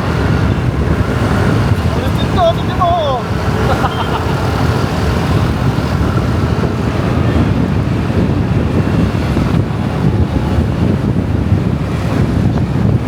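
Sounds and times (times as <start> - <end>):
motorcycle and road noise: 0.0 - 13.0
wind buffeting microphone: 0.0 - 13.0.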